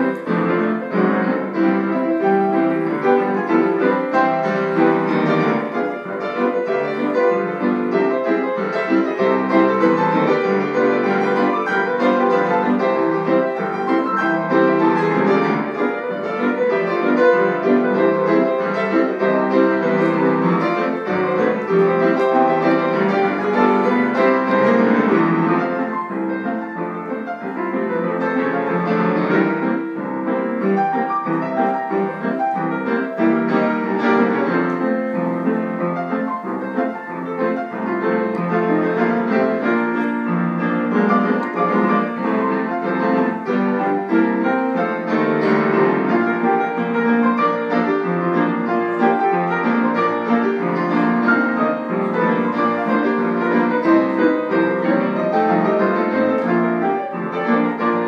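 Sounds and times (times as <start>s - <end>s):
two pianos playing ragtime: 0.0s - 58.0s.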